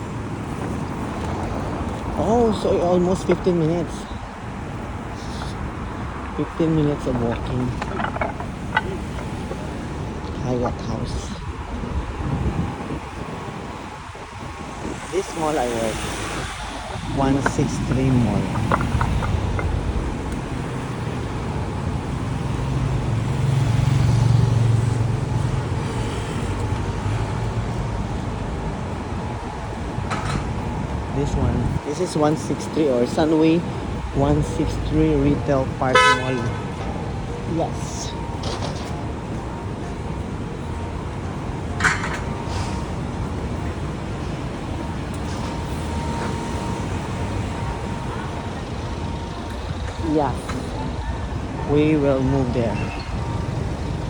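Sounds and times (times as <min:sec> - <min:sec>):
road traffic passing: 0:00.0 - 0:54.0
vehicle rumble: 0:00.0 - 0:54.0.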